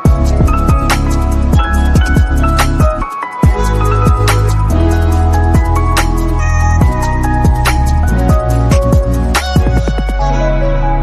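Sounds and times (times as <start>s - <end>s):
sliding bass notes: 0.0s - 11.0s.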